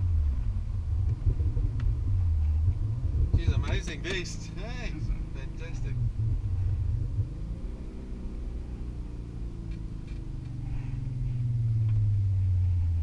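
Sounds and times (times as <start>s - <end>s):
car engine from inside cabin: 0.0s - 13.0s.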